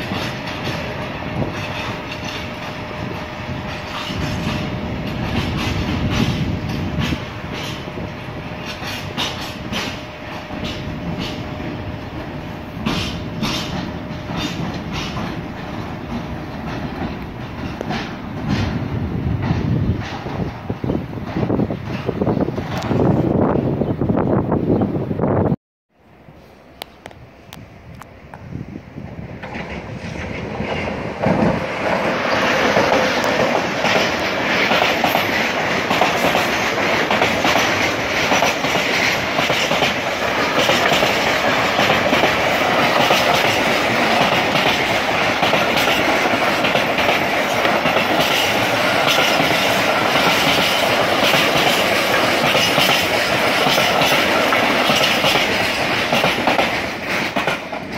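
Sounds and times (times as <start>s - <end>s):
freight train passing: 0.0s - 57.9s.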